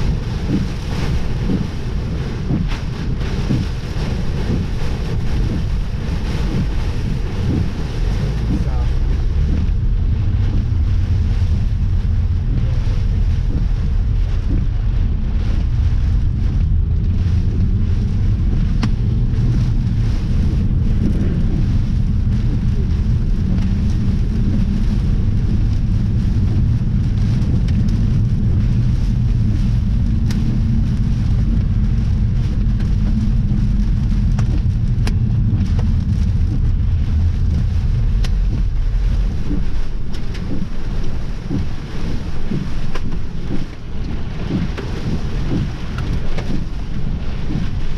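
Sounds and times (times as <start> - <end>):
rain: 0.0 - 47.9
strong wind rumbling on microphone: 0.0 - 47.9.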